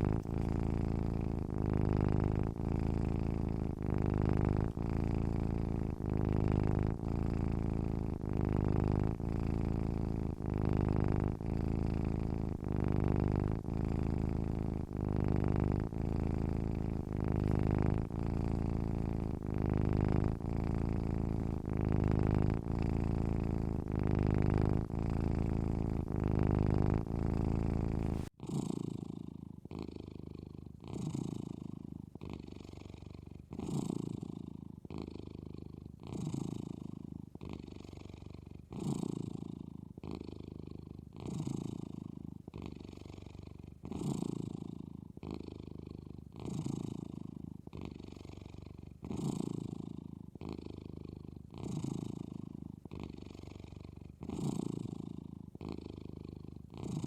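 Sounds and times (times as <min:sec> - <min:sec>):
cat snoring: 0:00.0 - 0:57.0.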